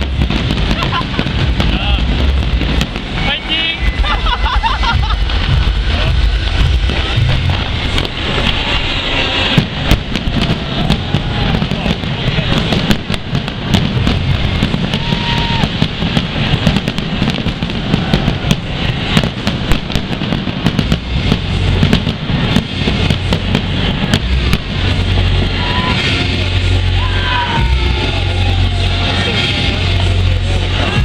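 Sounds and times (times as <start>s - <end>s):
fireworks cracking and banging: 0.0s - 31.0s
large crowd noise: 0.0s - 31.0s
steady low rumble: 0.0s - 31.0s.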